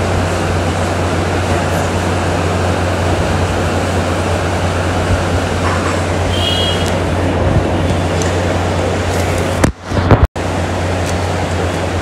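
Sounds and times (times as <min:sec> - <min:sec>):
rush of ventilation air: 0:00.0 - 0:12.0.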